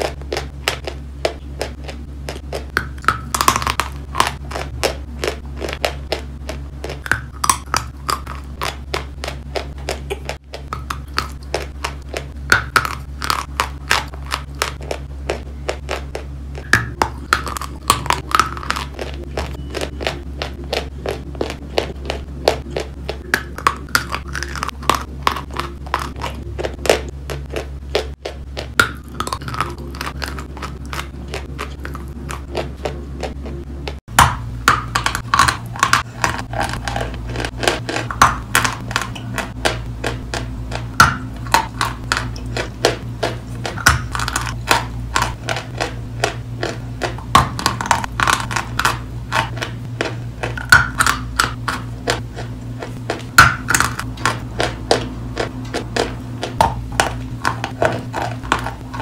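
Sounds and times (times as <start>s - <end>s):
chewing and crunching chalk: 0.0s - 59.0s
steady low hum: 0.0s - 59.0s.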